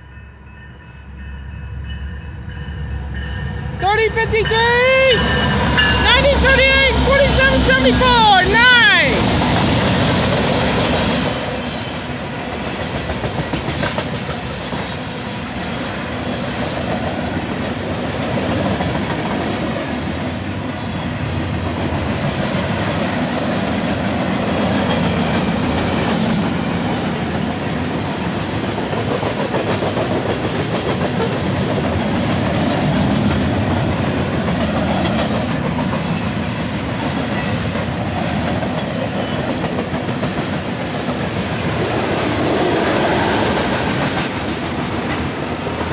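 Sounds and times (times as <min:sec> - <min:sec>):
freight train wheels rumbling on rails: 0:00.0 - 0:45.9.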